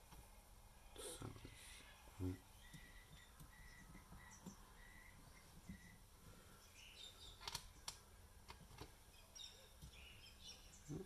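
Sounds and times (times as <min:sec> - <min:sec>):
faint bird chirps: 0:00.3 - 0:11.0.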